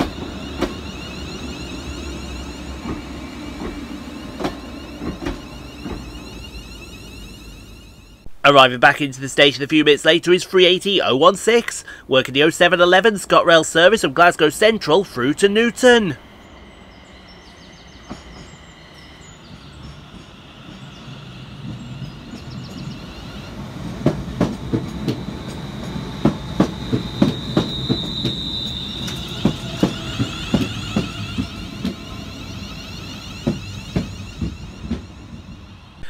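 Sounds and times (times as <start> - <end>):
wheels clattering over rail joints: 0.0 - 8.2, 13.8 - 36.0
high-pitched wheel squeal: 0.0 - 8.4, 14.4 - 36.0
train running rumble: 0.0 - 36.0.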